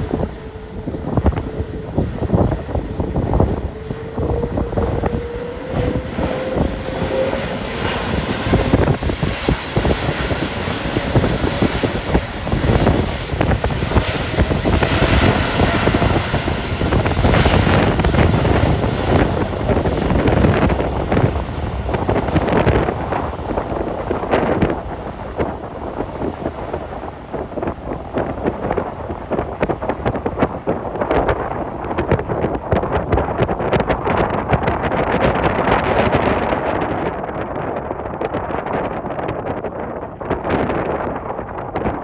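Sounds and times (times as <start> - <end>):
jet engines at takeoff: 0.0 - 42.0
wind buffeting microphone: 0.0 - 42.0.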